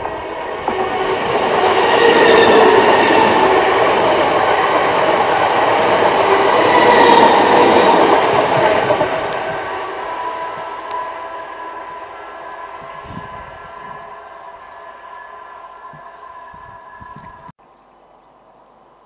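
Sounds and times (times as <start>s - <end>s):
electric train passing at speed: 0.0s - 17.5s.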